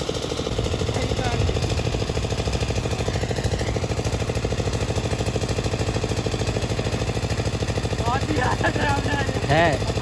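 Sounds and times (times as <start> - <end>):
engine running with pulsing beat: 0.0 - 10.0.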